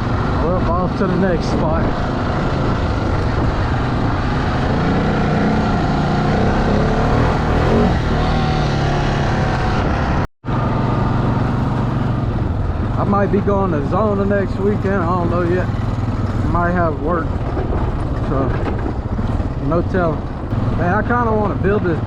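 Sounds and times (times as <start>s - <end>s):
off-road bike engine running: 0.0s - 22.0s.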